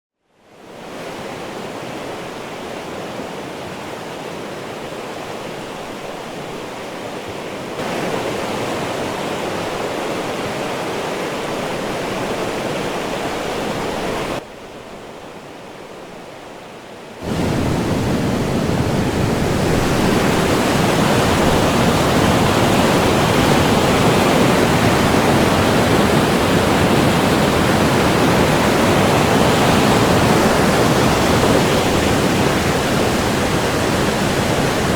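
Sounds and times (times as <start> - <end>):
rushing white water: 0.4 - 34.9.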